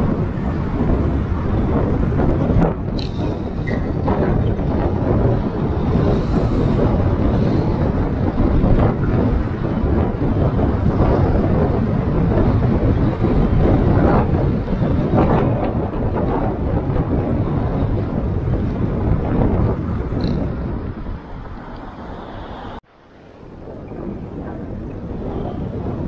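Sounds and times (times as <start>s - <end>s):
car road noise rumble: 0.0s - 26.0s
wind buffeting microphone: 0.0s - 26.0s.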